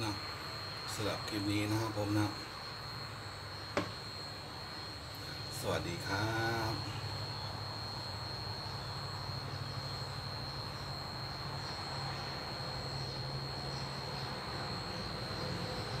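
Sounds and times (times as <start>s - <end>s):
high-pitched insect trill: 0.0s - 16.0s
low steady hum: 0.0s - 16.0s.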